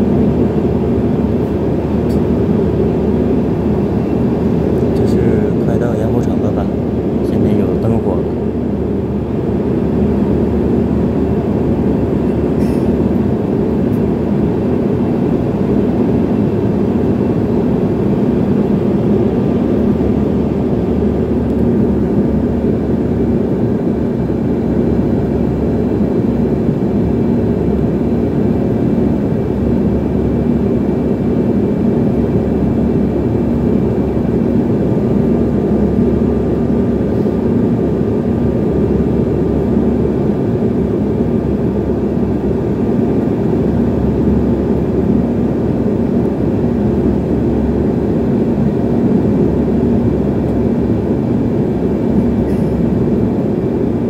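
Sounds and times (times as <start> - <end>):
faint steady whines: 0.0 - 54.0
plane engine drone in cabin: 0.0 - 54.0.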